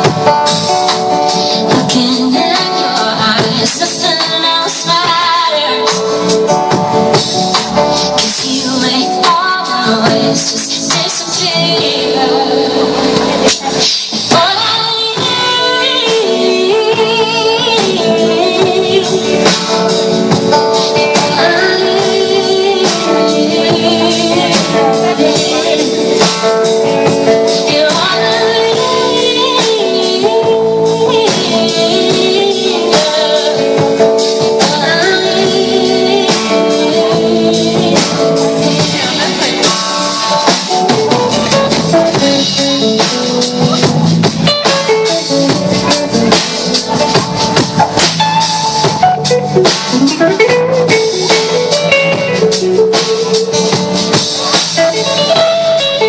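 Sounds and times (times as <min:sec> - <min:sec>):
drums: 0:00.0 - 0:56.0
guitar: 0:00.0 - 0:56.0
live band music: 0:00.0 - 0:56.0.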